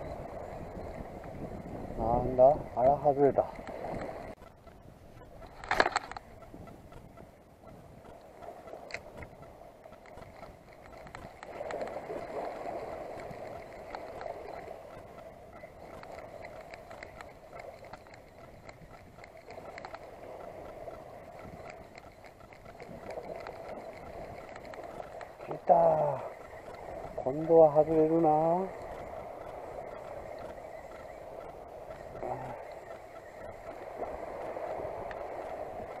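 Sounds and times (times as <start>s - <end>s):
fishing reel ticking: 0.0s - 36.0s.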